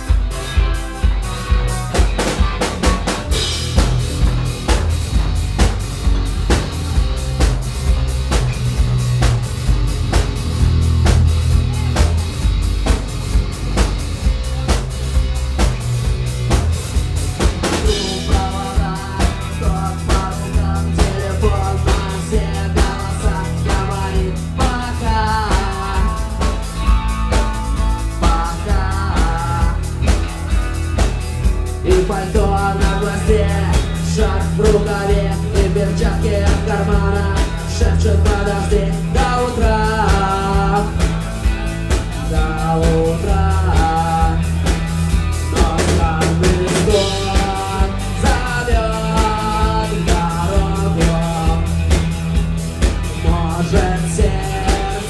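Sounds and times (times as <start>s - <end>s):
bass: 0.0s - 55.0s
drum kit beat: 0.0s - 55.0s
melodic guitar line: 0.0s - 55.0s.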